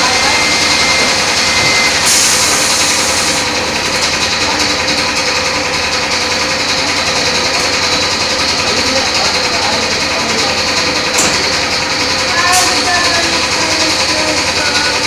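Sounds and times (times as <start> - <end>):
machine mechanical drone: 0.0 - 15.0.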